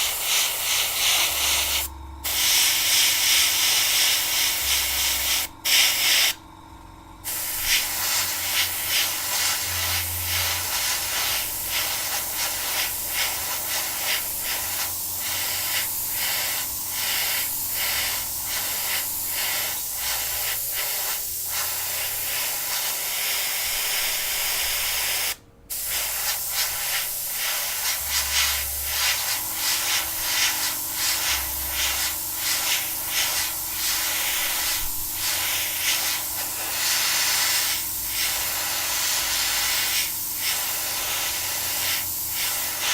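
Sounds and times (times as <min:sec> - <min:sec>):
airbrush hissing: 0:00.0 - 0:06.4, 0:07.2 - 0:42.9.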